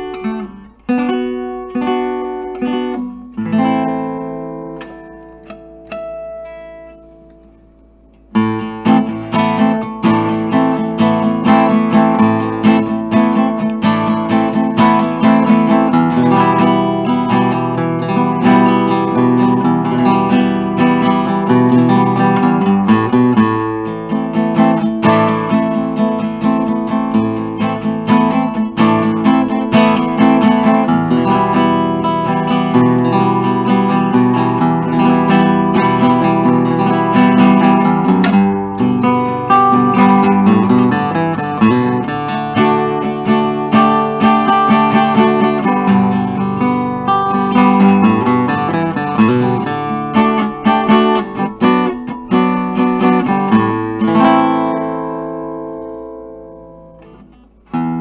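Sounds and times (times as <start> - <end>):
acoustic guitar chords strummed: 0.0 - 58.0.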